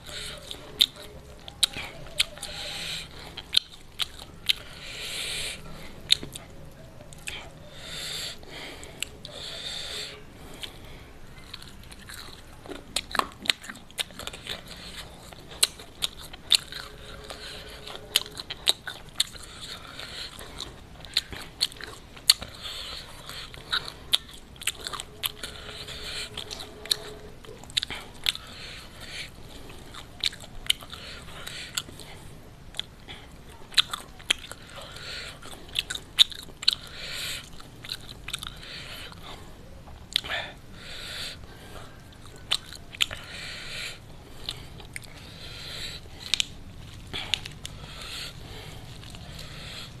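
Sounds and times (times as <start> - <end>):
chewing crispy fried chicken: 0.0 - 50.0.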